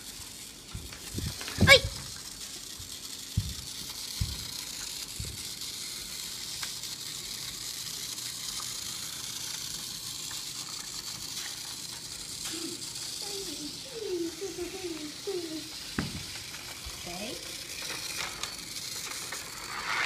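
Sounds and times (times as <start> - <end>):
toy car motor whirring: 0.0 - 20.0.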